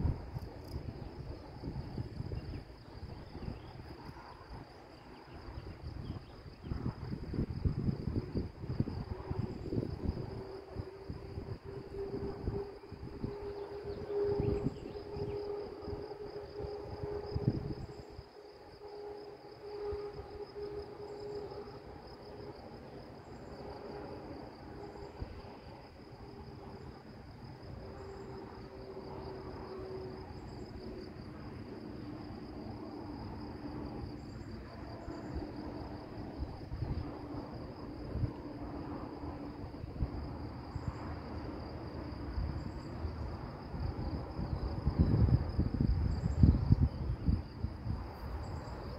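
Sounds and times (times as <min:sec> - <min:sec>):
insects chirring: 0:00.0 - 0:48.9
wind rumble on microphone: 0:00.0 - 0:48.9.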